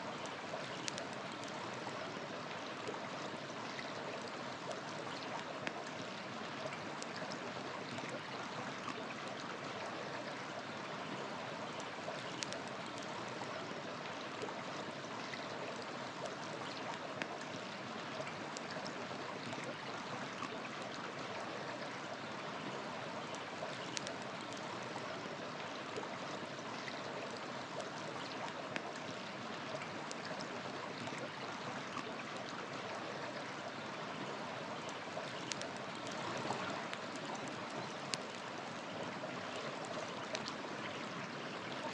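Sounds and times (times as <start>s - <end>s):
campfire crackles: 0.0s - 41.9s
river water flowing: 0.0s - 41.9s.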